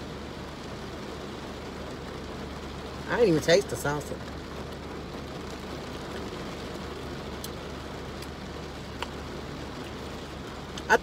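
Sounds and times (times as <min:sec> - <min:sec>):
rain on car roof: 0:00.0 - 0:11.0.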